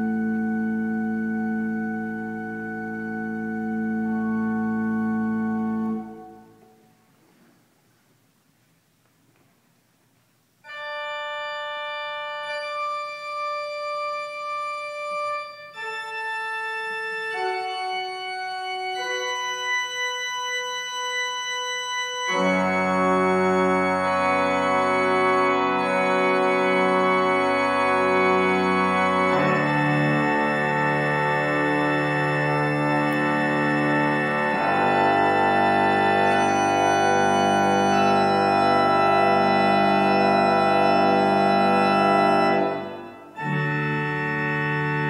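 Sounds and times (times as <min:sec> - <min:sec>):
church organ playing: 0:00.0 - 0:07.0, 0:10.6 - 0:45.0.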